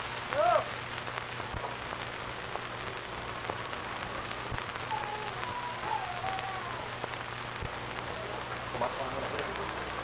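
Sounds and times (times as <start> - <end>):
film soundtrack surface noise: 0.0 - 10.0.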